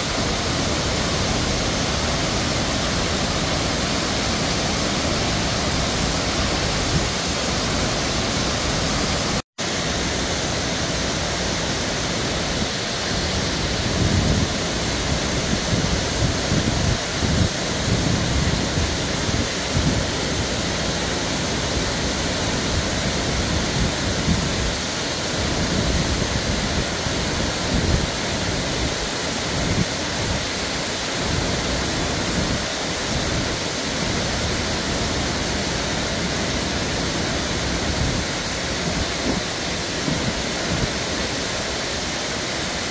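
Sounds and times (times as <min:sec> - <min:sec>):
water cascading down a spillway: 0:00.0 - 0:42.9.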